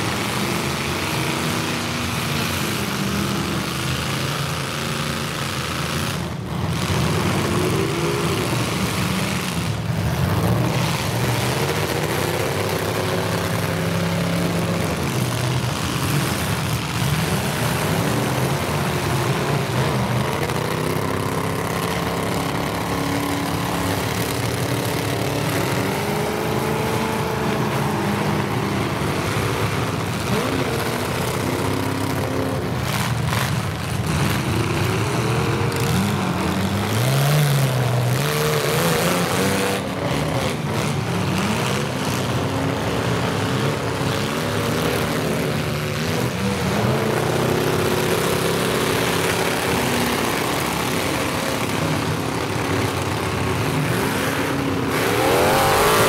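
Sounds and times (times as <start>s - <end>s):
unmuffled car engines revving: 0.0s - 56.0s.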